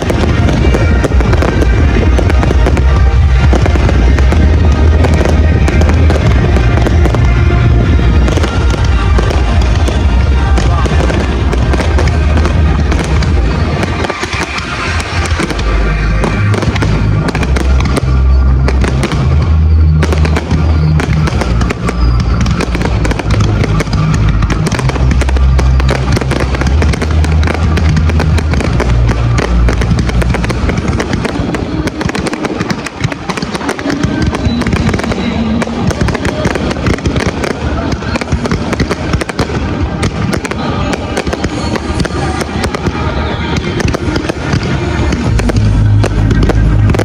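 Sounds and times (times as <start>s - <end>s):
firework bangs: 0.0s - 47.0s
music with heavy bass: 0.0s - 47.0s.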